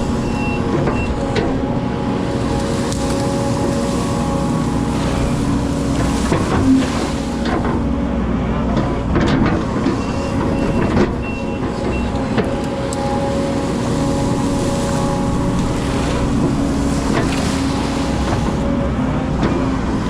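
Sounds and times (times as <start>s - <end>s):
excavator diesel engine: 0.0s - 20.0s.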